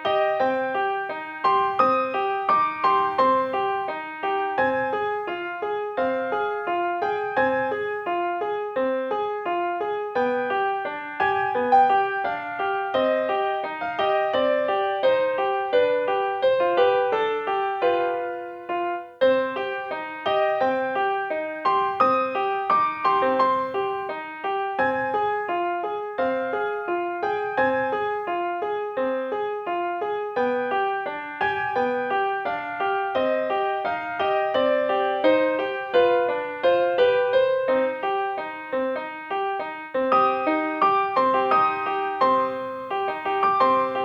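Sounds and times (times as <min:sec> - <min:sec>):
gentle piano melody: 0:00.0 - 0:44.0.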